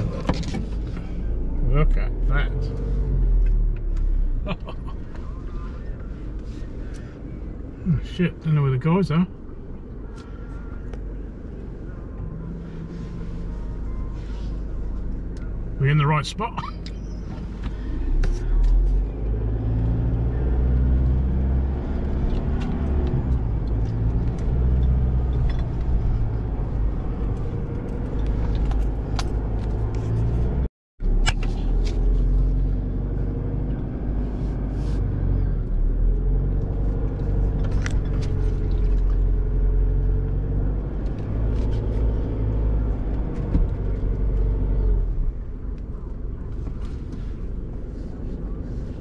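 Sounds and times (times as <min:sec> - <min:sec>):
engine and tyre rumble: 0:00.0 - 0:49.0.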